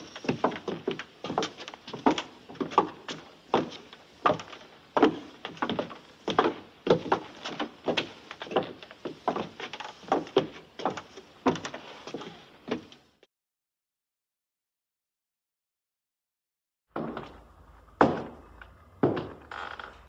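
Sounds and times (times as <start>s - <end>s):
footsteps on wooden floor: 0.0s - 13.0s, 17.0s - 20.0s.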